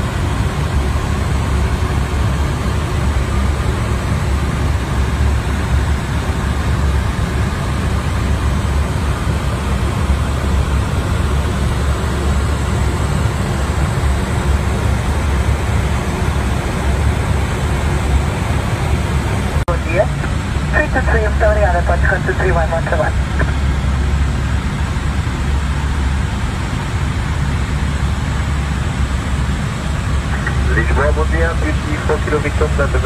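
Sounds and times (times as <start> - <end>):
cockpit airflow and engine hum: 0.0 - 33.0.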